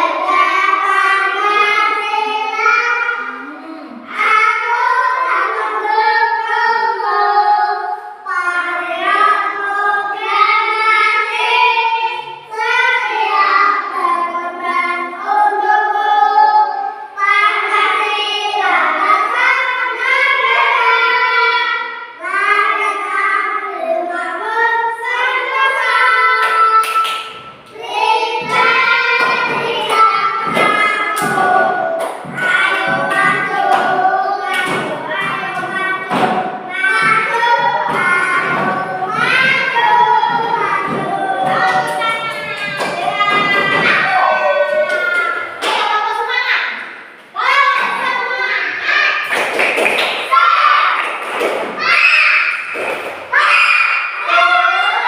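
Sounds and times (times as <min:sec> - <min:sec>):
children singing: 0:00.0 - 0:55.0.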